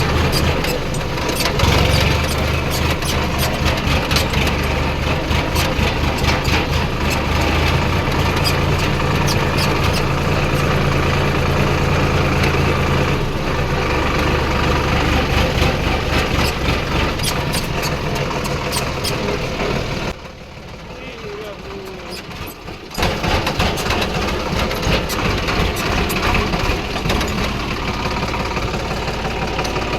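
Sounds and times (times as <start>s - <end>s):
sharp clicks and rattles: 0.0s - 20.4s, 21.0s - 29.9s
tractor engine humming: 0.0s - 29.9s.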